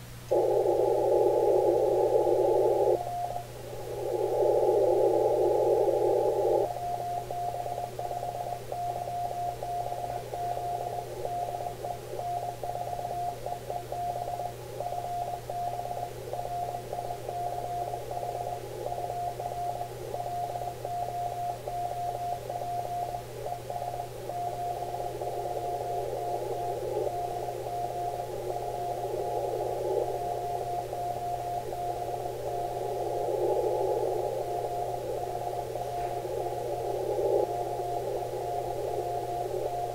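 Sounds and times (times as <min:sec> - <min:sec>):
radio band hiss: 0:00.0 - 0:39.9
morse code tone: 0:00.3 - 0:39.9.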